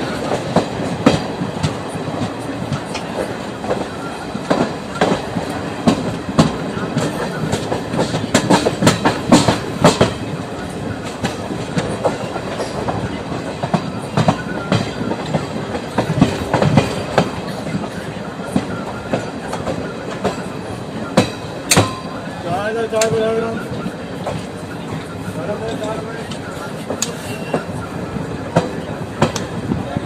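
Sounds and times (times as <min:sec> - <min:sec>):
train wheels clattering over rail joints: 0:00.0 - 0:24.7, 0:25.5 - 0:30.0
moving train rumble: 0:00.0 - 0:30.0.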